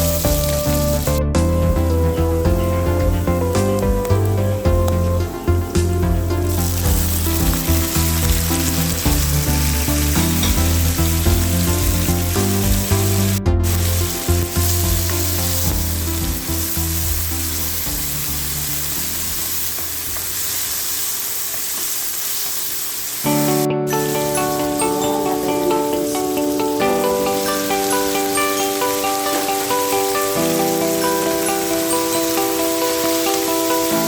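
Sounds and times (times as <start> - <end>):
background music: 0.0 - 21.0, 23.2 - 34.0
food sizzling in a pan: 0.0 - 34.0.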